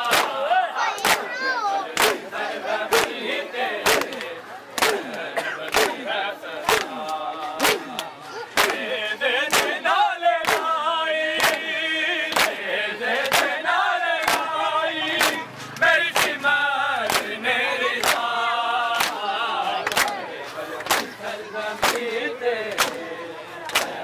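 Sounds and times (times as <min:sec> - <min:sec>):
men slapping chests in unison: 0:00.0 - 0:24.0
voices chanting a lament: 0:00.0 - 0:24.0.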